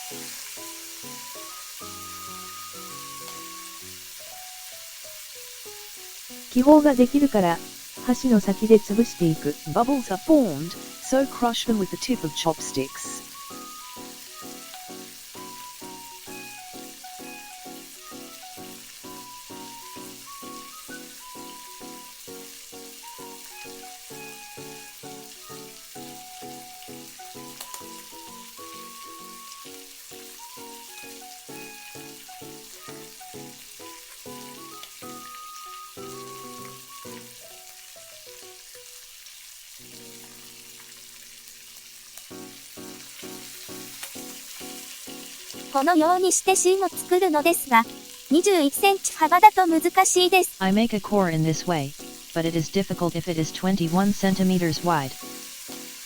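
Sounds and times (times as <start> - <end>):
background music: 0.0 - 38.7, 41.8 - 56.0
egg sizzling in frying pan: 0.0 - 53.0, 55.0 - 56.0.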